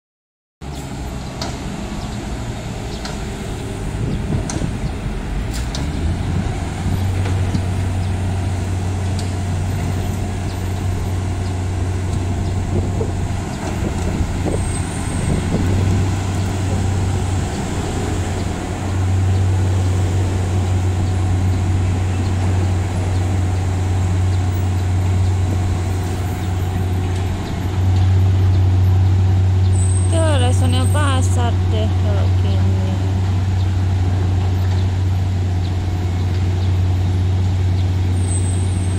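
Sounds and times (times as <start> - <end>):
diesel engine droning: 0.6 - 38.9.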